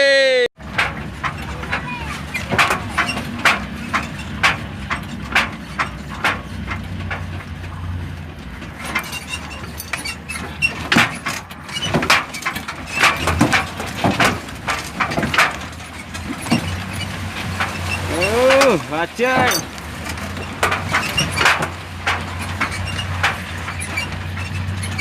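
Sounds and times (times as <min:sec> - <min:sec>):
truck engine droning: 0:00.0 - 0:25.0
knocks and rattles: 0:00.6 - 0:25.0.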